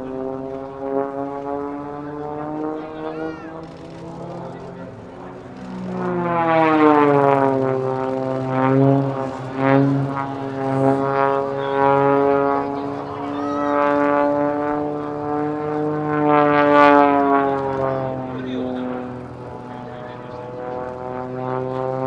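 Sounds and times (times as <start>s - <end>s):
propeller airplane engine drone: 0.0s - 22.0s.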